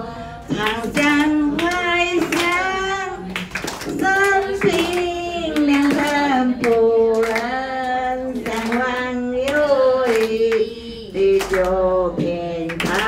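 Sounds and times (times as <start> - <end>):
group singing slow song: 0.0 - 13.0
hand clapping: 0.5 - 10.7, 11.3 - 13.0.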